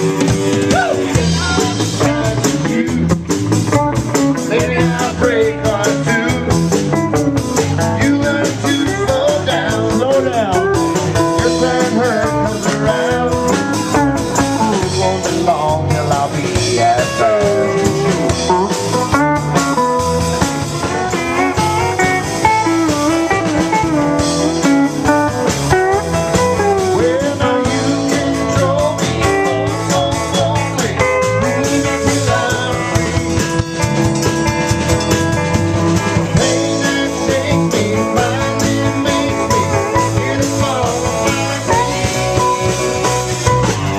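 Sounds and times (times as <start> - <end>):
blues-rock band playing: 0.0 - 43.9.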